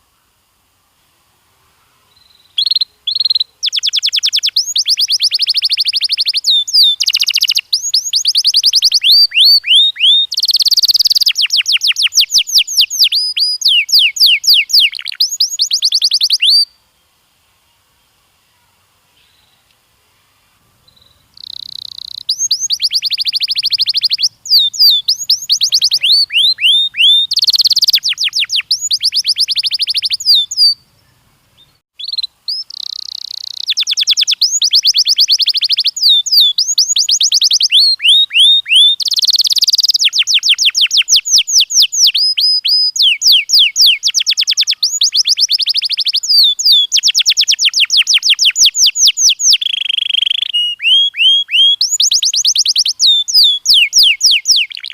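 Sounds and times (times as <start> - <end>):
canary singing trills: 2.0 - 16.8, 20.7 - 54.9.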